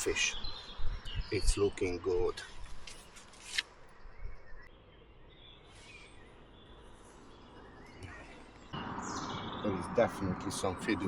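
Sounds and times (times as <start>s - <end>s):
faint bird chirps: 0.0s - 10.3s.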